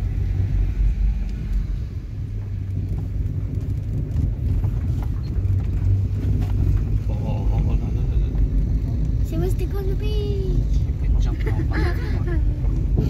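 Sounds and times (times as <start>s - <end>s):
car driving slowly over sand: 0.0s - 13.0s.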